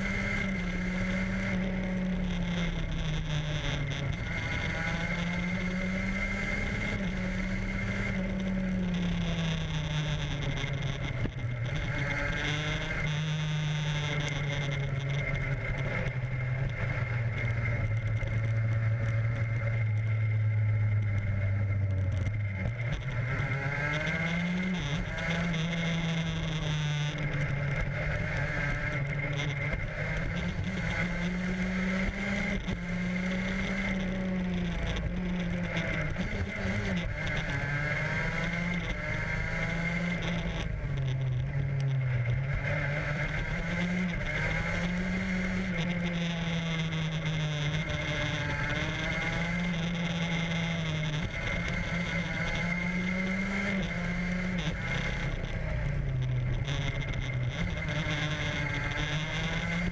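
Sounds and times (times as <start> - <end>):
vehicle engine revving: 0.0 - 59.9
wind and road rush: 0.0 - 59.9.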